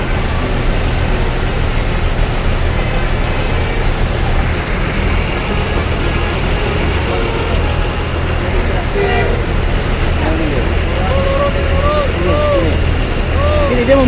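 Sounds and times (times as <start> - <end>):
bus diesel engine rumbling: 0.0 - 14.0.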